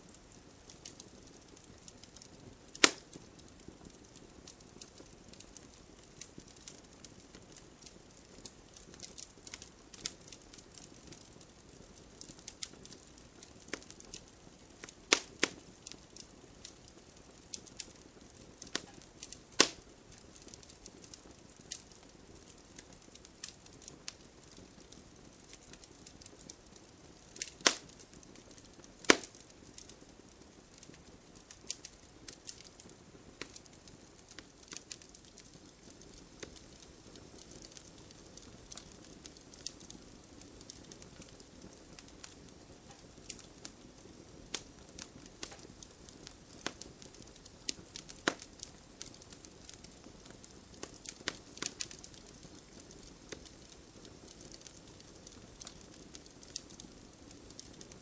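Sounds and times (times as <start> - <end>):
light rain hiss: 0.0 - 58.0
wood fire crackling and popping: 0.0 - 58.0.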